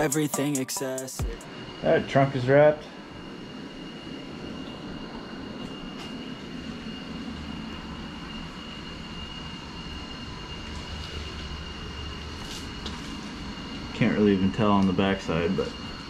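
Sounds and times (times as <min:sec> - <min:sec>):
high whine: 0:00.0 - 0:16.0
mechanical hum with rumble: 0:00.0 - 0:16.0.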